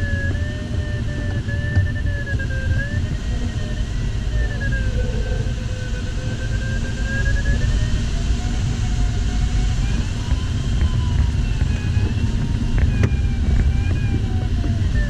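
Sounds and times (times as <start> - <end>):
airflow rumble in cockpit: 0.0 - 15.0
variometer tone sliding in pitch: 0.0 - 15.0.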